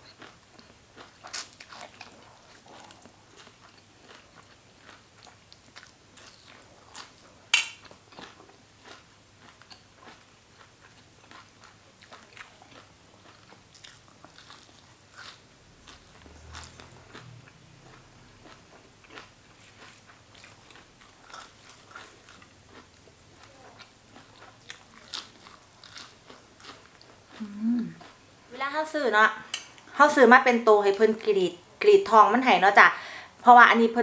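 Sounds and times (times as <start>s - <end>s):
chewing and crunching in mouth: 0.0s - 28.2s.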